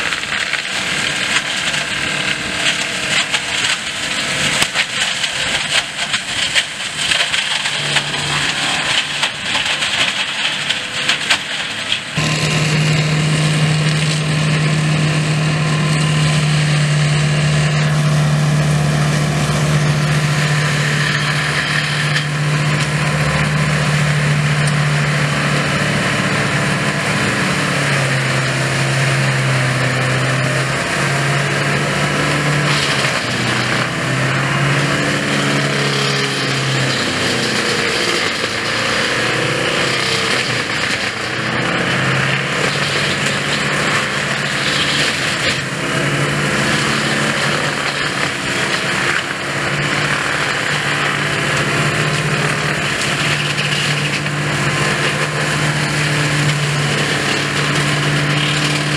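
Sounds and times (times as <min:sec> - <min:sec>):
mulcher shredding wood: 0:00.0 - 0:58.9
tractor engine drone: 0:00.0 - 0:58.9.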